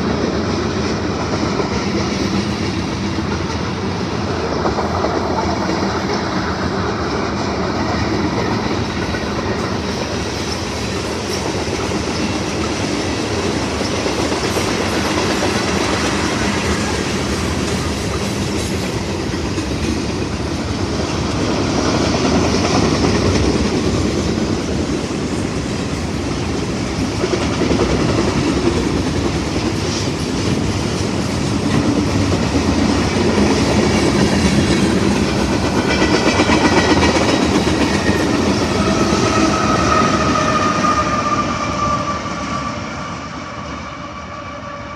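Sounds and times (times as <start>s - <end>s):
train wheels clacking over rail joints: 0.0s - 42.0s.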